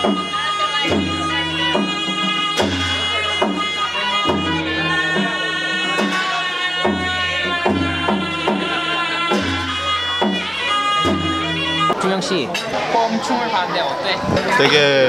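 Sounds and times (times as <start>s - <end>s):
steady drum beat: 0.0s - 12.6s
sustained ensemble melody: 0.0s - 15.0s.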